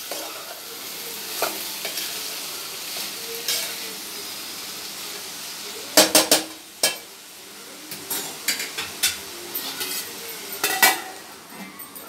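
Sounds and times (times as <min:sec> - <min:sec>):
faint sizzle: 0:00.0 - 0:12.0.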